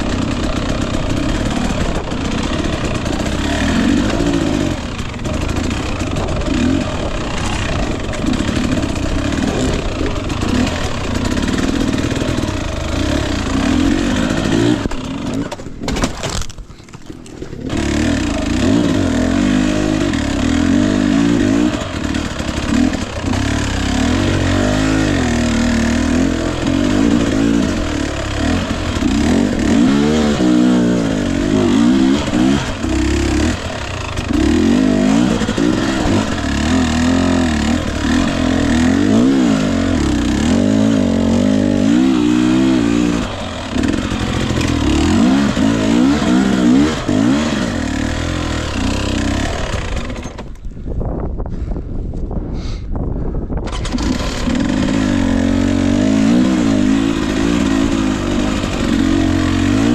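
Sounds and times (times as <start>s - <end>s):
dirt bike engine revving: 0.0s - 16.0s, 17.4s - 50.7s, 53.6s - 59.9s.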